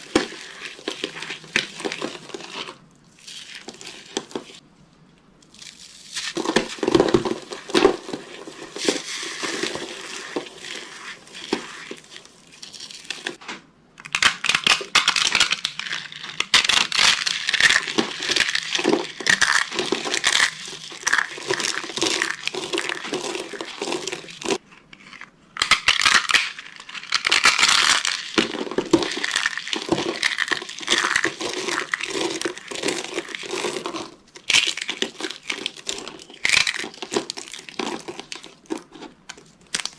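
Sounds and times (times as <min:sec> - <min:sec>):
dry soap crunching: 0:00.0 - 0:04.6, 0:05.4 - 0:13.4, 0:14.0 - 0:39.9.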